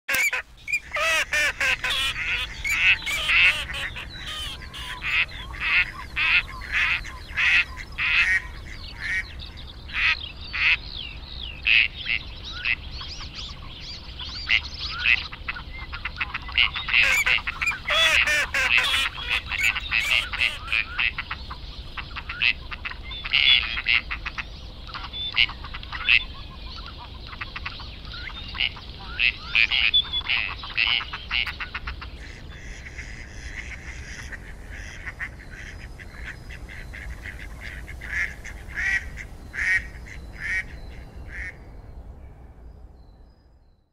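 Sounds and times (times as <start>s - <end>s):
waterfowl honking and quacking: 0.1s - 10.8s, 14.3s - 41.6s.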